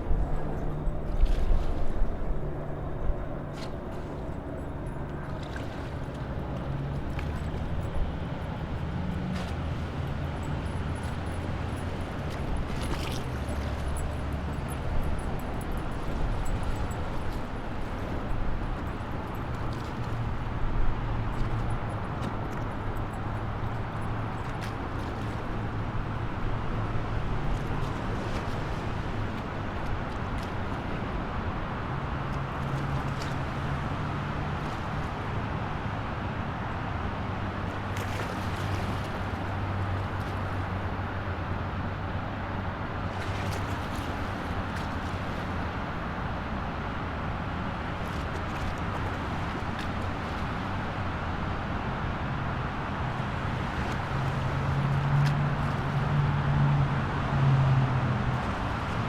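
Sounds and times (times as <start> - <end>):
motor vehicle rumble: 0.0 - 59.0
road noise: 0.0 - 59.0.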